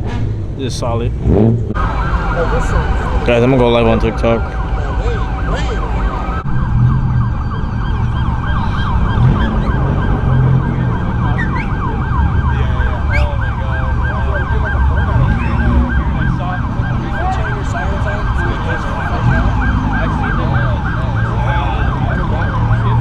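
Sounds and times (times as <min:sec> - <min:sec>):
car engines idling: 0:01.7 - 0:23.0
police siren yelping: 0:01.8 - 0:23.0.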